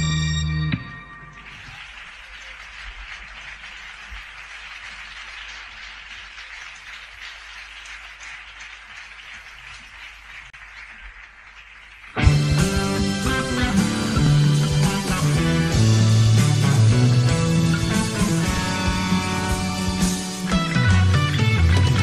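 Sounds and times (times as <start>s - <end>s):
audience applause: 1.3s - 22.0s.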